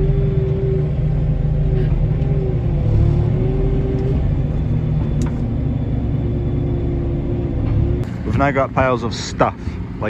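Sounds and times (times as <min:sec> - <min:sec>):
forklift engine running: 0:00.0 - 0:10.0.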